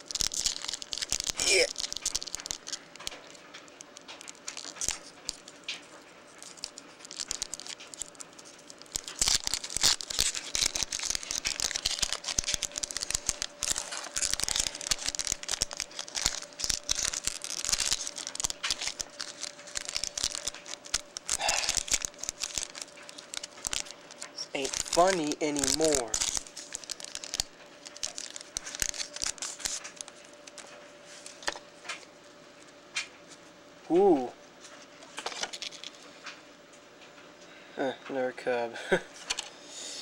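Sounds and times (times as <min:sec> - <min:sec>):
cards rustling: 0:00.0 - 0:32.1, 0:35.1 - 0:36.0
foil wrappers tearing and crinkling: 0:00.0 - 0:32.1, 0:35.0 - 0:36.0.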